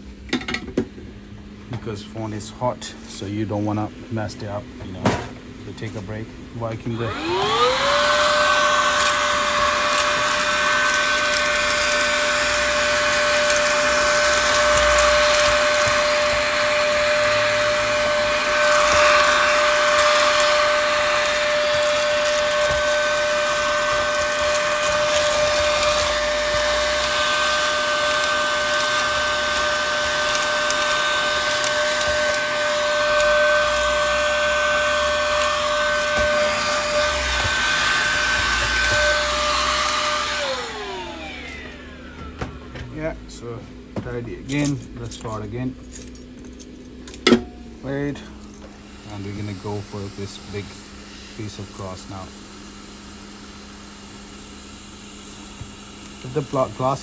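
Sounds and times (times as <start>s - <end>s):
heat gun whining: 1.7s - 57.0s.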